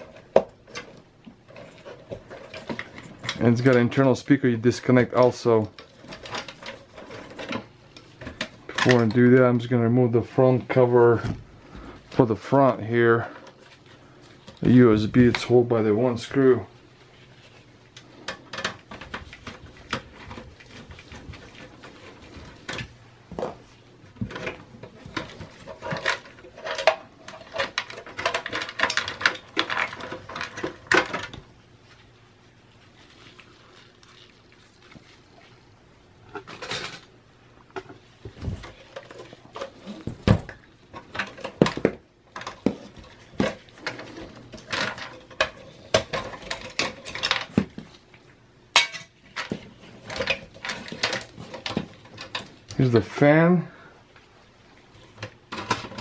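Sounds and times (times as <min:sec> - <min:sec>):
metal and plastic parts clattering: 0:00.0 - 0:16.6, 0:17.4 - 0:31.5, 0:36.3 - 0:37.2, 0:37.8 - 0:48.0, 0:48.7 - 0:53.6, 0:55.0 - 0:56.0.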